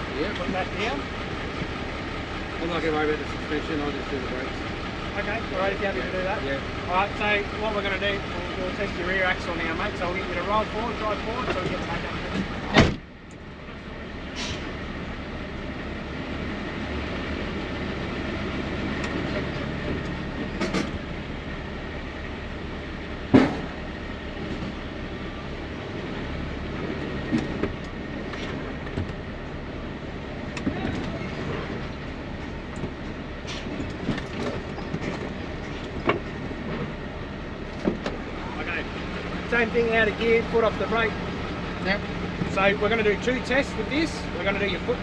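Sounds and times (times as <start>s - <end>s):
truck diesel engine running: 0.0s - 45.0s
clunks and rattles: 0.1s - 13.4s, 18.6s - 21.4s, 23.2s - 25.0s, 26.6s - 45.0s.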